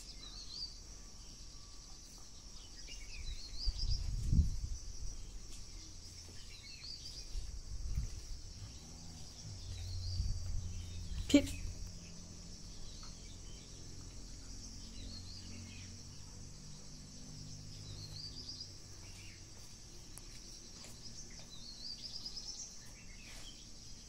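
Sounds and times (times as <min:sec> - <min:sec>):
bird chirping: 0:00.0 - 0:24.0
high-pitched insect chorus: 0:00.0 - 0:24.0.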